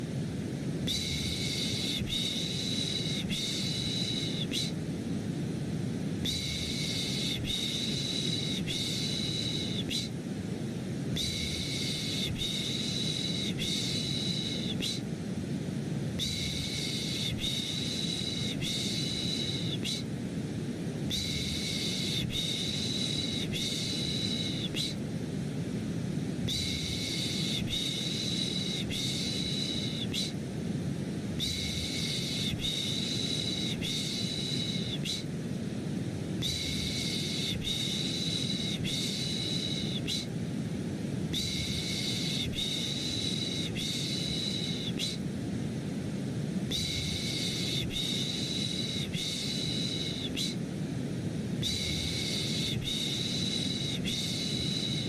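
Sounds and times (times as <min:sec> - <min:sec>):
low white noise hiss: 0:00.0 - 0:55.0.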